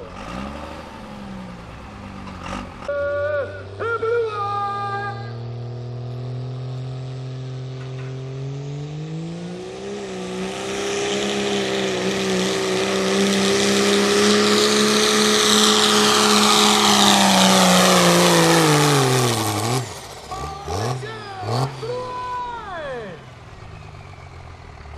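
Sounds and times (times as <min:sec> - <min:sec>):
pickup truck engine revving: 0:00.0 - 0:24.9.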